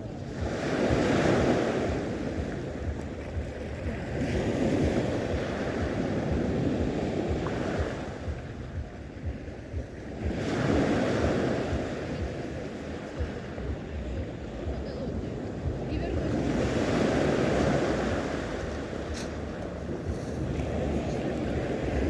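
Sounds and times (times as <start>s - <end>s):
sea waves washing onto shore: 0.0s - 22.0s
wind buffeting microphone: 0.0s - 22.0s.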